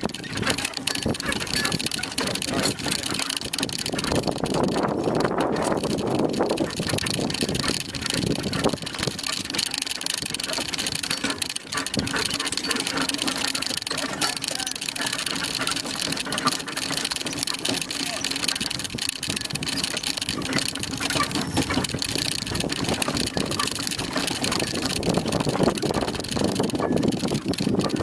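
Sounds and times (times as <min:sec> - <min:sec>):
cart wheels and harness rattling: 0:00.0 - 0:28.0
horses' hoofbeats: 0:00.0 - 0:28.0.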